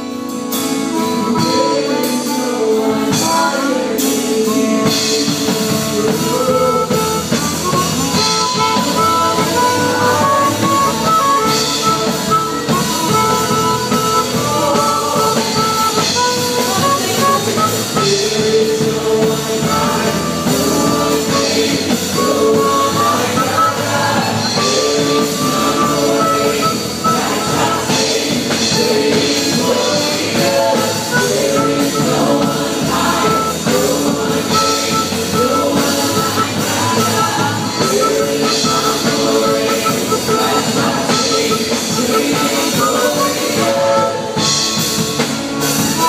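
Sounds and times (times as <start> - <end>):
live band music: 0.0 - 46.0
people singing: 0.0 - 46.0.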